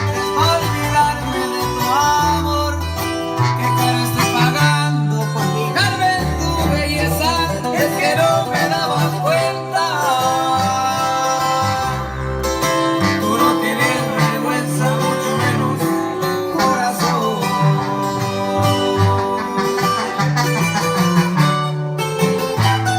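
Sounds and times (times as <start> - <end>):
person singing: 0.0 - 21.8
country music: 0.0 - 22.9
plucked guitar and banjo: 0.0 - 22.9.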